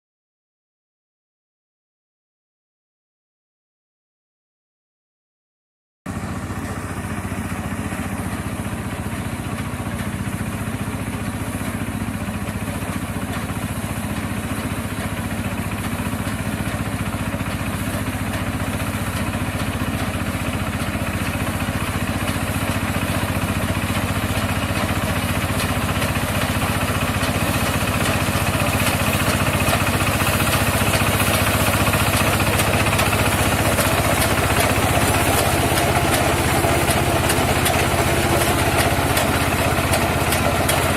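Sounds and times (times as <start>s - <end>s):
harvester engine and machinery running: 6.1s - 40.9s.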